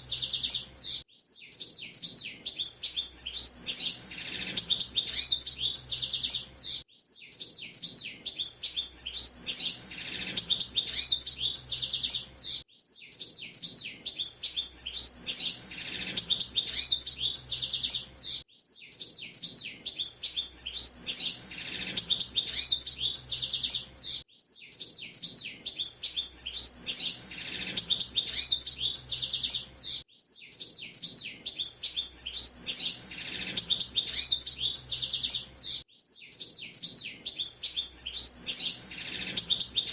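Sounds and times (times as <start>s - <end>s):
bird singing rapid twittering song: 0.0s - 39.9s.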